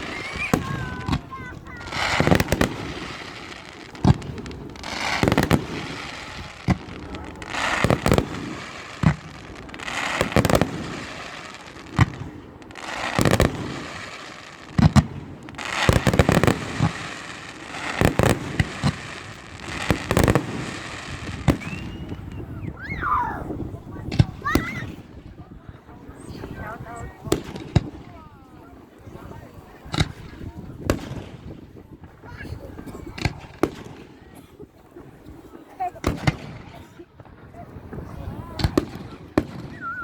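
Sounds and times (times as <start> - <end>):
fireworks bursting: 0.0 - 34.4, 35.1 - 40.0
fireworks crackling: 0.0 - 40.0.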